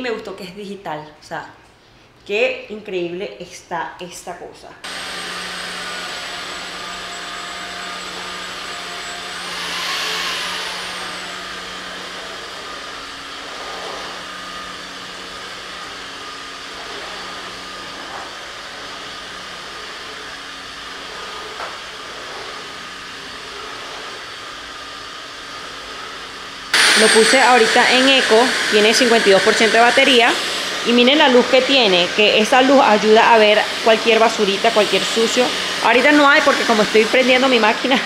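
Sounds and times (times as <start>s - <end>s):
vacuum cleaner motor whine: 4.8s - 38.0s.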